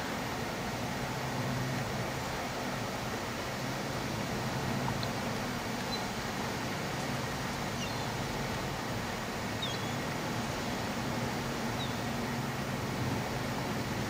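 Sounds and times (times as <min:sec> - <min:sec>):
rushing wind and water: 0:00.0 - 0:14.0.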